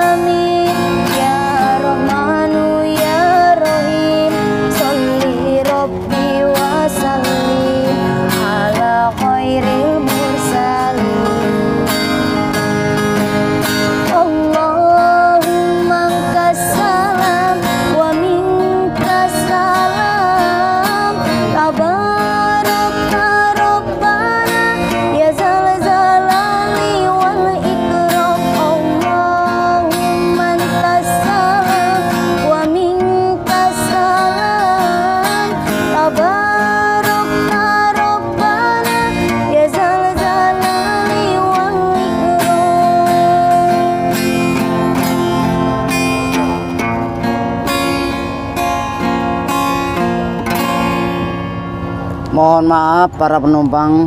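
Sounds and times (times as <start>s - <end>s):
woman singing devotional song: 0.0s - 12.4s, 14.0s - 45.3s
strummed acoustic guitar: 0.0s - 54.0s.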